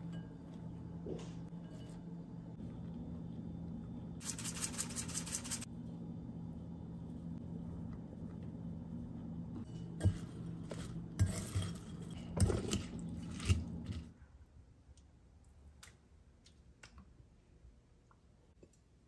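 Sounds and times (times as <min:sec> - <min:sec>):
low hum: 0:00.0 - 0:15.6.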